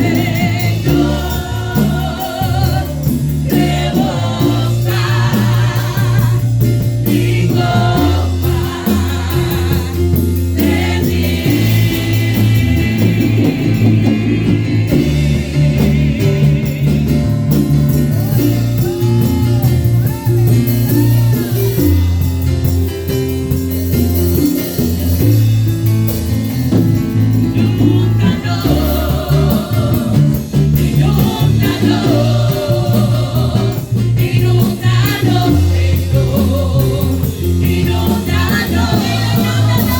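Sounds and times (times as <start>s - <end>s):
people singing: 0.0s - 22.2s, 27.3s - 39.9s
bass line: 0.0s - 39.9s
worship band playing: 0.0s - 39.9s.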